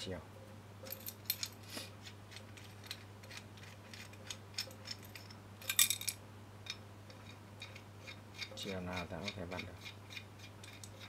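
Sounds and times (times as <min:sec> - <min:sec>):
metal tool clicking and rattling: 0:00.9 - 0:11.0.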